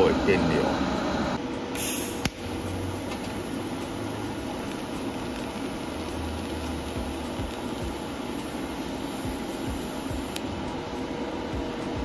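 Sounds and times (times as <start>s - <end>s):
welding arc hissing: 0.0s - 10.5s.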